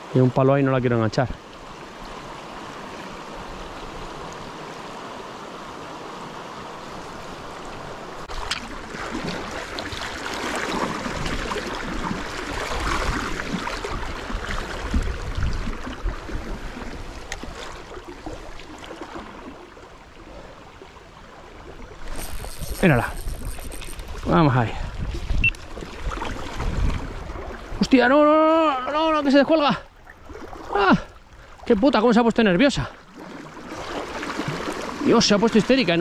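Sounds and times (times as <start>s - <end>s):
river water rushing and churning: 0.0s - 36.0s.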